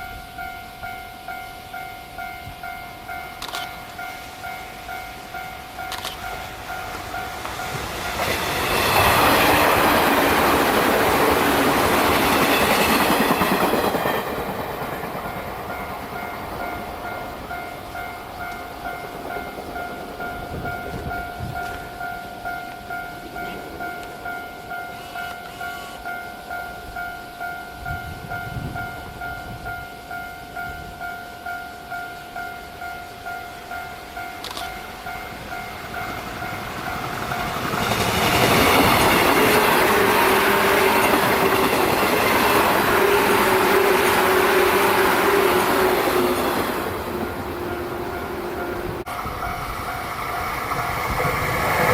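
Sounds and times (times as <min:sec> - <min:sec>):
level crossing warning bell: 0:00.0 - 0:51.9
train passing at speed: 0:00.0 - 0:51.9.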